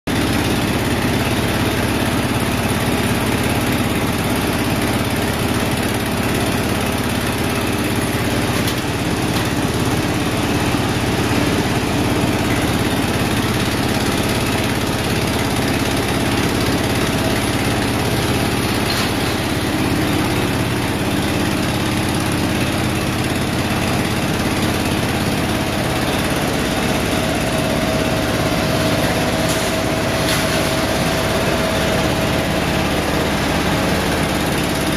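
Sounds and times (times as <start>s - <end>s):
air blower machine drone: 0.1s - 34.9s.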